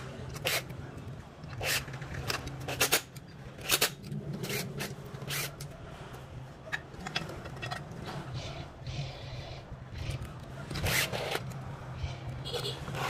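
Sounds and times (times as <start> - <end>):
metal clicks and scrapes: 0.0 - 13.0
steady low hum: 0.0 - 13.0.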